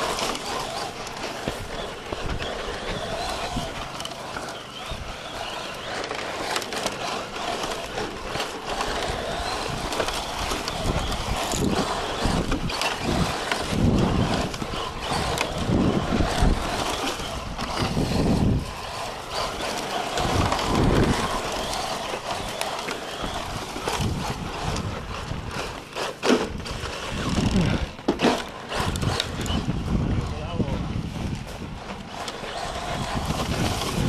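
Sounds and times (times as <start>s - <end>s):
toy car driving over gravel: 0.0s - 34.0s.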